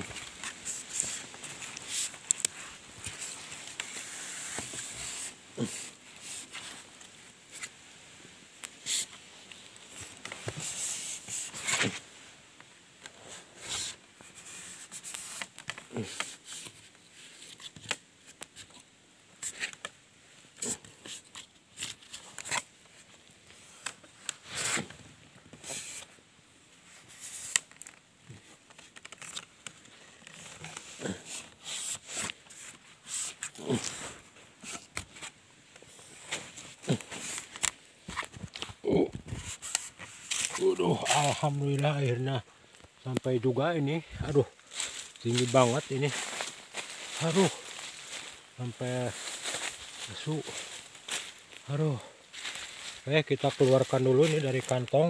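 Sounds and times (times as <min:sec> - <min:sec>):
rubbing and scraping on bark: 0:00.0 - 0:07.8, 0:08.6 - 0:12.1, 0:13.1 - 0:20.0, 0:20.6 - 0:26.2, 0:26.8 - 0:55.0.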